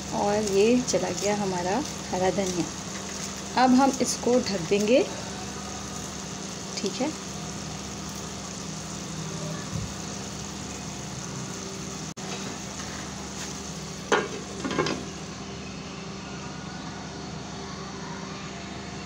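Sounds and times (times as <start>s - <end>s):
food cooking in a pot: 0.0s - 16.5s.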